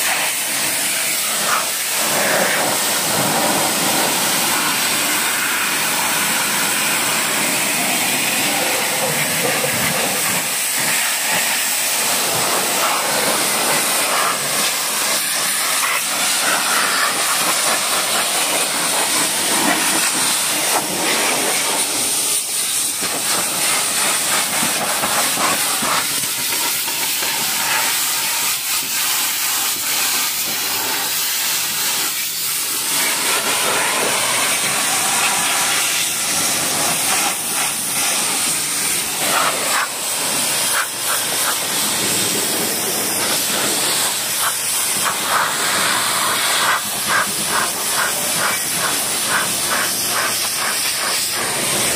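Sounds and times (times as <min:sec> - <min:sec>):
pressure washer spraying water: 0:00.0 - 0:51.9.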